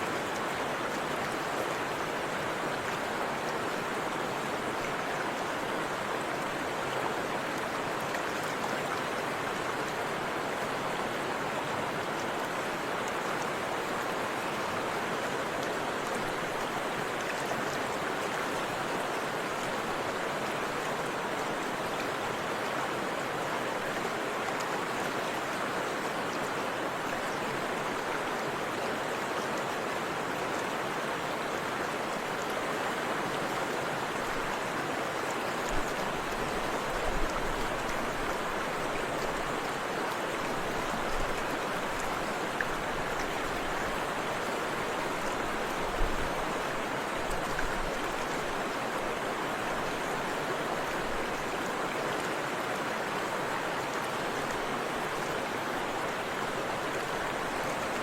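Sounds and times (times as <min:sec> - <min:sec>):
river rushing over waterfall: 0:00.0 - 0:58.0.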